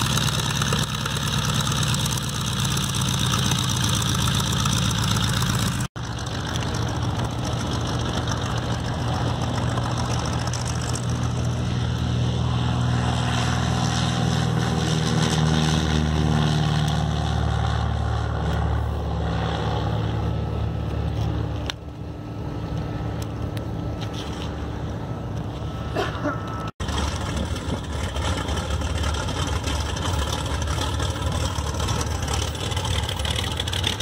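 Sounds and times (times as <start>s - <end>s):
small plane engine and propeller: 0.0s - 34.0s.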